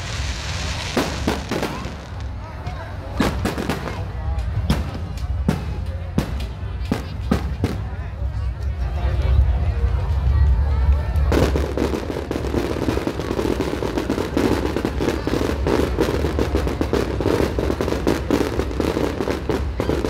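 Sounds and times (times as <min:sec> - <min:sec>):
fireworks crackling: 0:00.0 - 0:08.1, 0:11.1 - 0:20.0.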